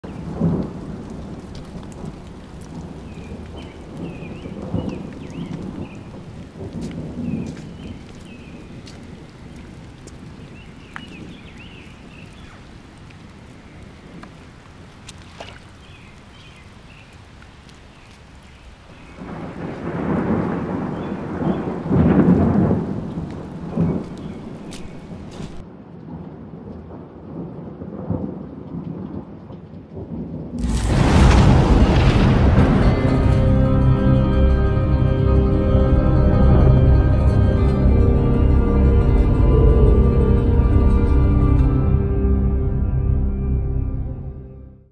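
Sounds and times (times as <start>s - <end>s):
thunder rumbling: 0.0s - 14.2s, 19.2s - 44.6s
rain: 0.0s - 44.9s.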